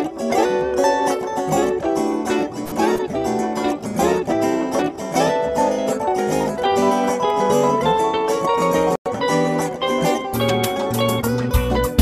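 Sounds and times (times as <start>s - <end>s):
jazz electric guitar solo: 0.0s - 12.0s.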